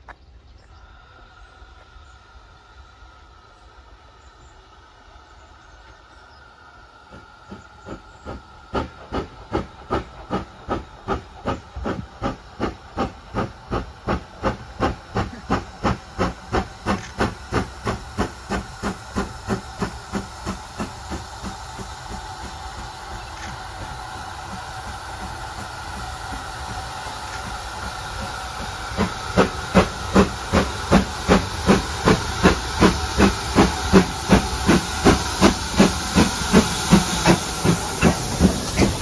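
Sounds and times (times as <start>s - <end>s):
steam hissing: 0.5s - 39.0s
steam locomotive chuffing: 0.6s - 39.0s.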